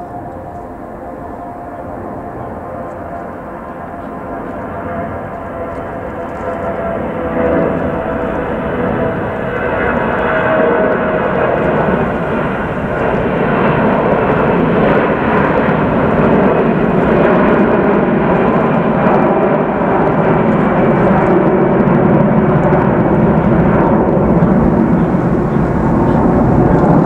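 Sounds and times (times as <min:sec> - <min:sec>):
airliner jet roar: 0:00.0 - 0:27.0.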